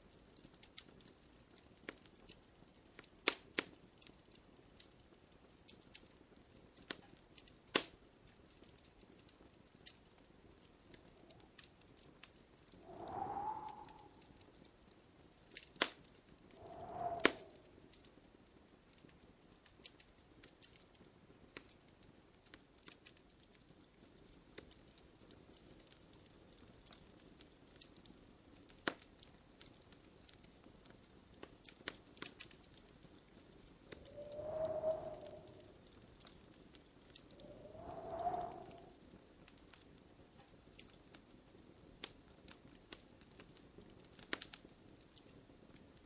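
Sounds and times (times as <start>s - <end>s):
faint steady hiss: 0.0s - 46.0s
wood fire crackling: 0.0s - 46.0s.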